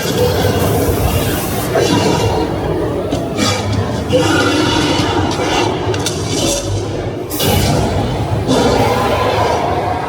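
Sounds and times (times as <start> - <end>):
tram rumbling: 0.0 - 10.0.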